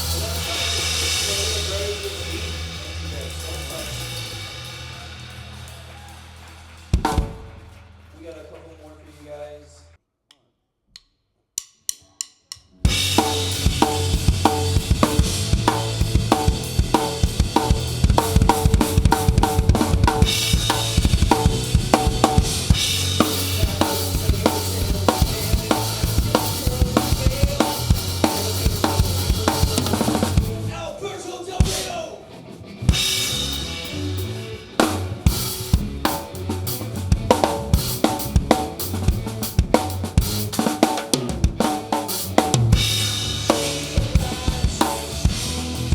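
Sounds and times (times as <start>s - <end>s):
rock band playing: 0.0s - 8.1s, 12.9s - 45.9s
drum kit: 0.0s - 9.4s, 11.6s - 45.9s.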